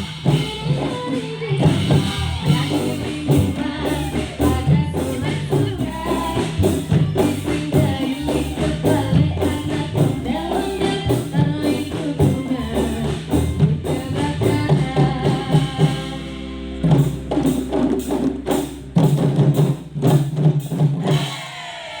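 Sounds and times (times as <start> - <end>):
drums: 0.0 - 22.0.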